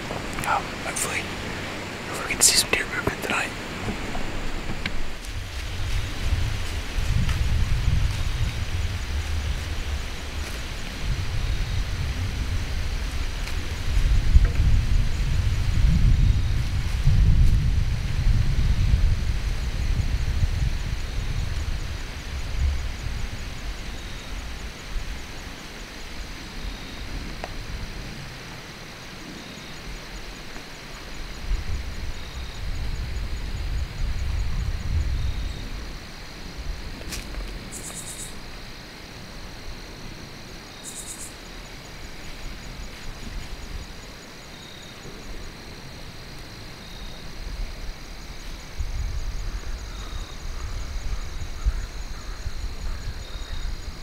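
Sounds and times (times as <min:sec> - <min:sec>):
faint high hiss: 0:00.0 - 0:50.4
crickets chirping in fast pulses: 0:00.0 - 0:54.0
steady high insect drone: 0:00.0 - 0:54.0
wind rumbling on microphone: 0:00.0 - 0:54.0
high buzzy insect trill: 0:04.3 - 0:54.0.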